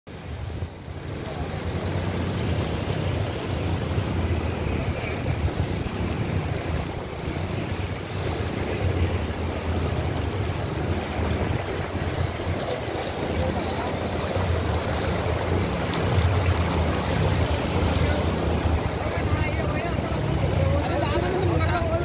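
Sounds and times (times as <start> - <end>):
floodwater rushing: 0.1 - 22.0
wind rumbling on microphone: 0.1 - 22.0.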